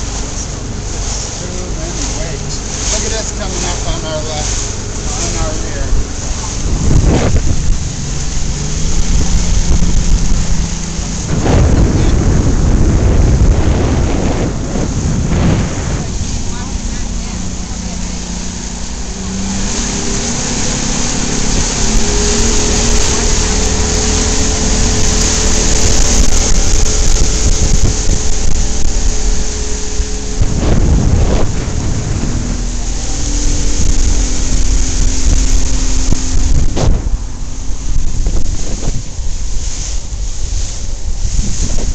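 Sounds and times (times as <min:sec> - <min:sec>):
motorboat engine hum: 0:00.0 - 0:41.9
wind buffeting microphone: 0:00.0 - 0:41.9.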